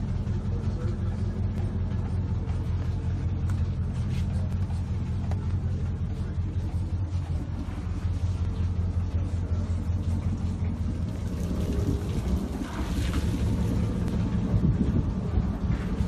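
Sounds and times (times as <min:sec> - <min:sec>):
low mechanical rumble with deep hum: 0:00.0 - 0:16.0.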